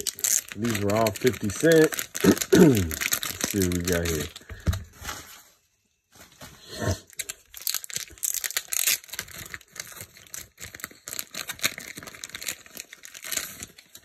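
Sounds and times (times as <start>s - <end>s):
plastic bag crinkling: 0.0s - 5.4s, 7.0s - 14.0s.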